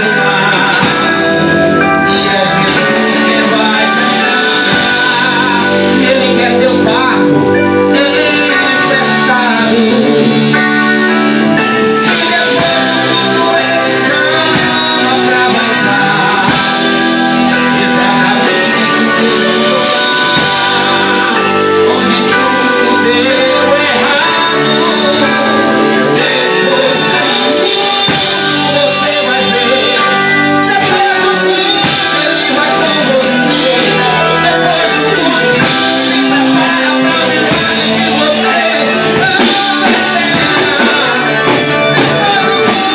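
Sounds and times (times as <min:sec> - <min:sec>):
guitar: 0:00.0 - 0:42.9
person singing: 0:00.0 - 0:42.9.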